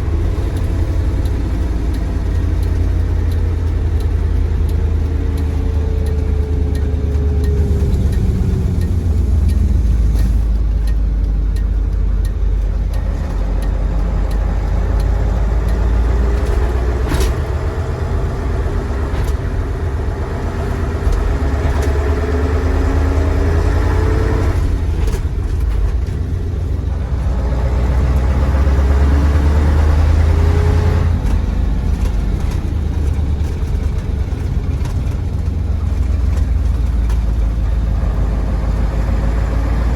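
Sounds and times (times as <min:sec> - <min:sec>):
diesel truck engine rumbling: 0:00.0 - 0:39.9.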